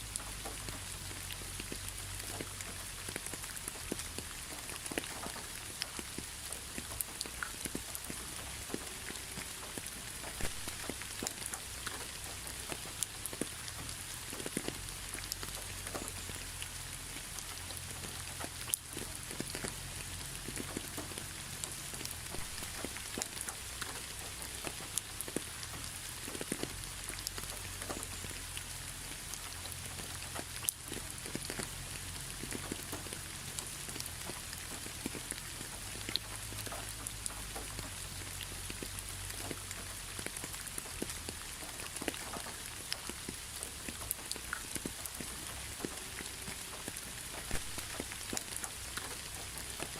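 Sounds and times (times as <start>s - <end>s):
rain falling: 0.0s - 49.9s
raindrops ticking close by: 0.0s - 49.9s.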